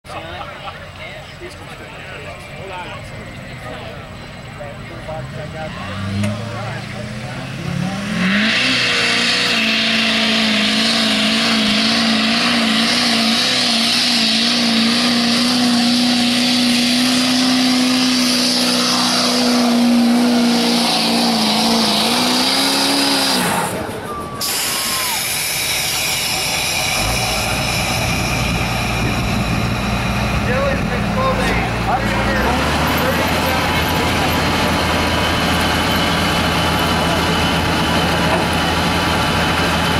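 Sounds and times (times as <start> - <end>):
diesel pickup engine revving: 0.2 - 39.9.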